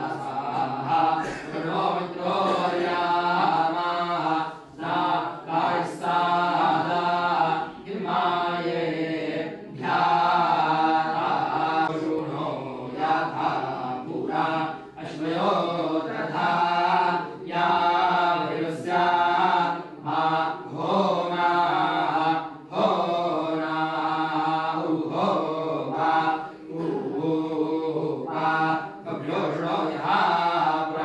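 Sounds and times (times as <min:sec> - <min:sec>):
men chanting together: 0:00.0 - 0:31.0.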